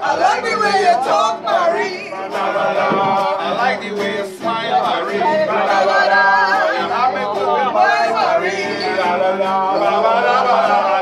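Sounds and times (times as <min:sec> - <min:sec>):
men singing: 0:00.0 - 0:11.0
voices joining in: 0:00.0 - 0:11.0.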